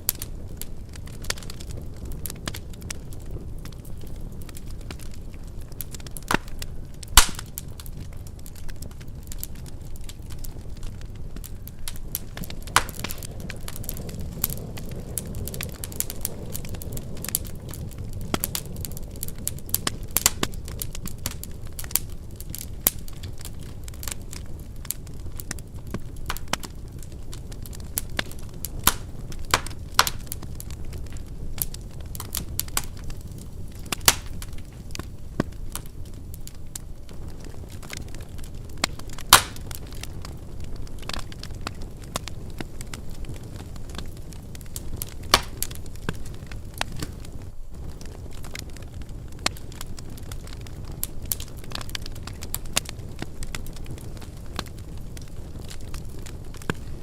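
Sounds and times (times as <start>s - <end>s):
fire rumbling: 0.0s - 57.0s
wood crackling and popping: 0.0s - 57.0s.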